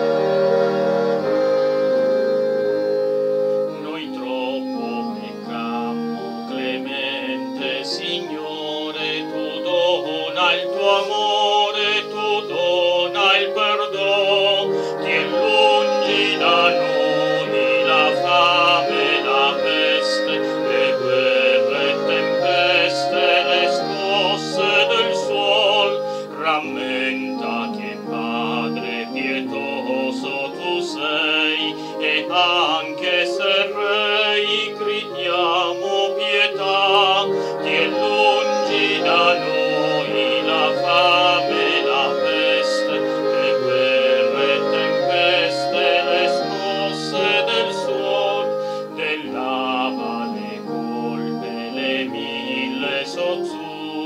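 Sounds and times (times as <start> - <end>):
slow hymn music: 0.0 - 54.0.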